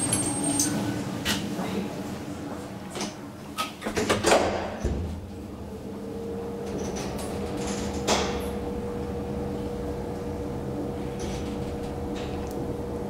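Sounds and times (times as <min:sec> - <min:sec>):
elevator doors sliding shut: 0:00.0 - 0:01.6, 0:02.4 - 0:13.0.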